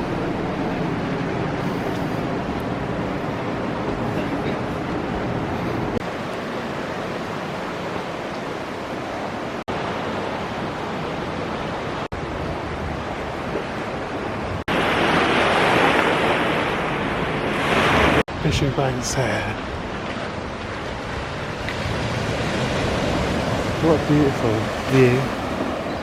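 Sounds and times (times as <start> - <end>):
sea surf washing against shore: 0.0 - 26.0.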